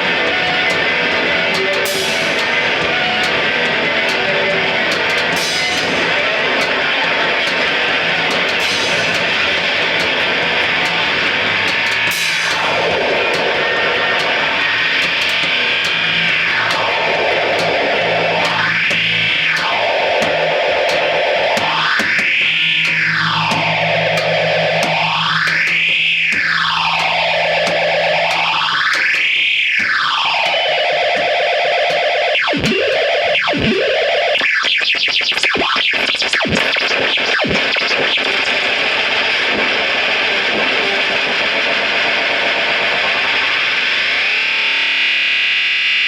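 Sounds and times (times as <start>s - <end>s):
harsh electronic noise music: 0.0s - 46.0s.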